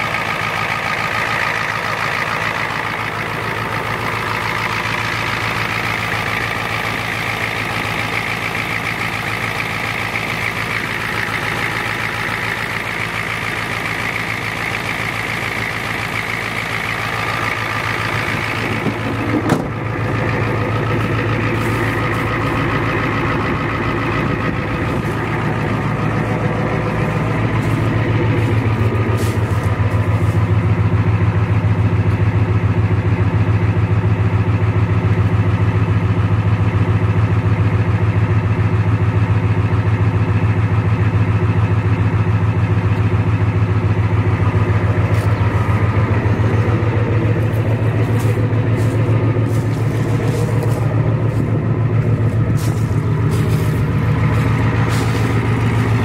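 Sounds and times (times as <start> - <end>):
diesel engine idling: 0.0 - 56.0
engine knock: 0.0 - 56.0.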